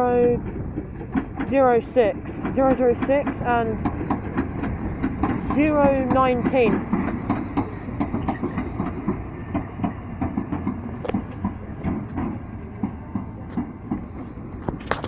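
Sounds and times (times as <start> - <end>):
low train rumble: 0.0 - 15.0
train wheels clicking over rail joints: 0.0 - 15.0.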